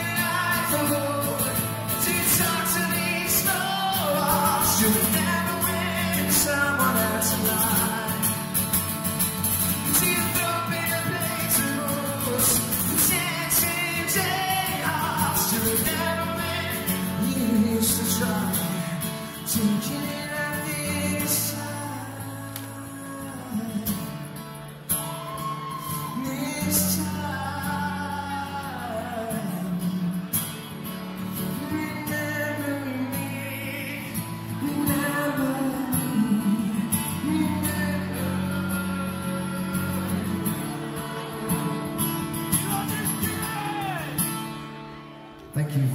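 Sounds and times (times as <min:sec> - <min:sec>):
man singing: 0:00.0 - 0:08.8, 0:09.7 - 0:24.3, 0:26.0 - 0:30.6, 0:31.4 - 0:44.4
strummed acoustic guitar: 0:00.0 - 0:45.9.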